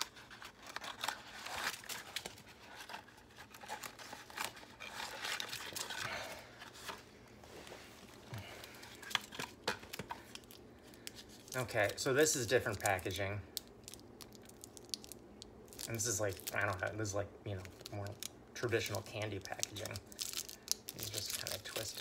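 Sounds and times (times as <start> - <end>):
candy wrapper crinkling and tearing: 0.0 - 6.1, 8.9 - 22.0.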